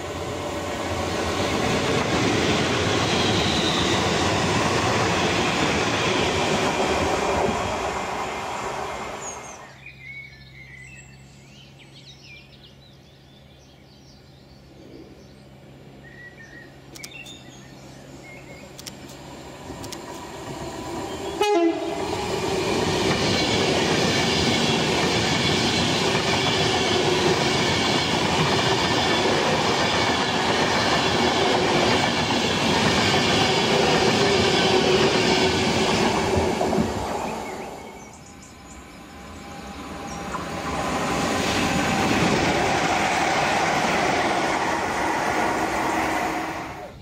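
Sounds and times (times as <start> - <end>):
loud train noise: 0.0 - 12.0, 14.8 - 47.0
train passing at speed: 0.0 - 12.8, 14.6 - 47.0.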